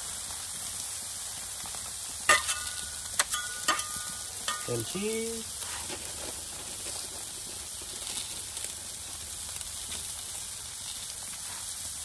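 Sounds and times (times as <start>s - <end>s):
egg sizzling on a griddle: 0.0s - 12.0s.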